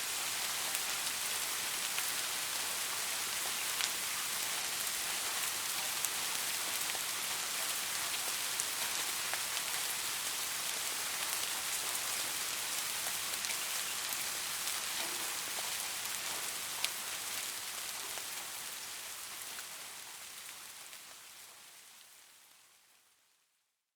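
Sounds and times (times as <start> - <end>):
soft rain falling: 0.0 - 23.8.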